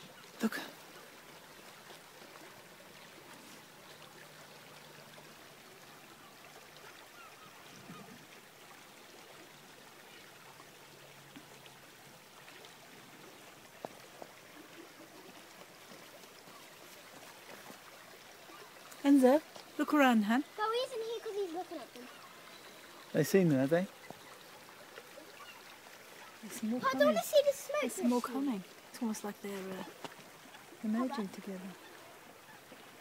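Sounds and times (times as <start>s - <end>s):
faint outdoor background hiss: 0.0s - 33.0s.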